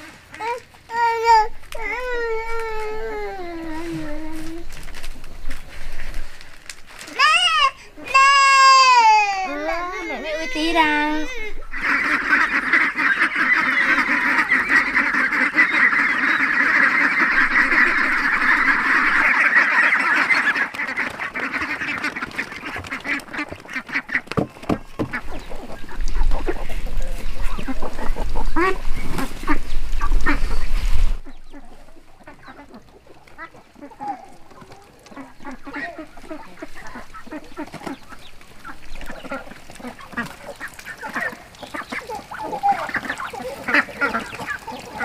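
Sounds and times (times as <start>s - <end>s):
sharp clicks of ducks eating: 0.0s - 8.9s, 9.6s - 45.0s
ducks quacking: 0.0s - 45.0s.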